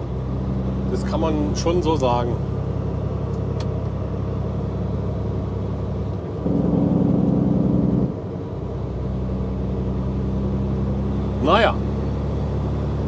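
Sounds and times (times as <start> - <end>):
truck diesel engine droning: 0.0 - 13.0.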